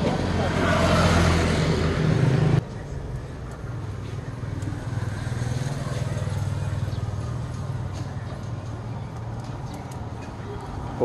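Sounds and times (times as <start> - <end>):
vehicle passing: 0.0 - 2.9, 3.7 - 11.0
street noise: 0.0 - 11.0
vehicle engine humming: 0.0 - 11.0.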